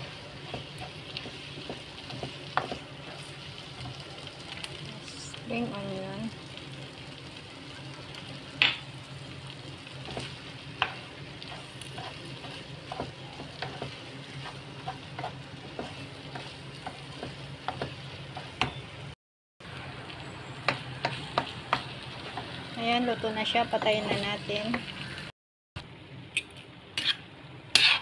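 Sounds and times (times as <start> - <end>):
noodles sizzling in a wok: 0.0 - 25.3, 26.5 - 28.0.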